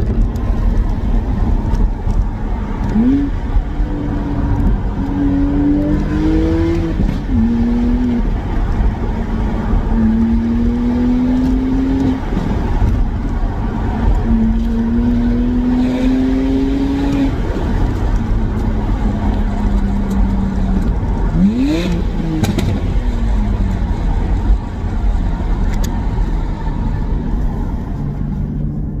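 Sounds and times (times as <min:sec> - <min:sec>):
car engine with deep rumble: 0:00.0 - 0:29.0.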